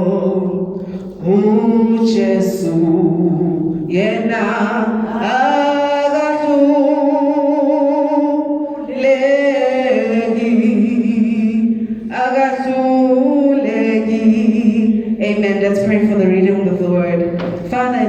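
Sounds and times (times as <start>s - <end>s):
person singing with vibrato: 0.0s - 18.0s.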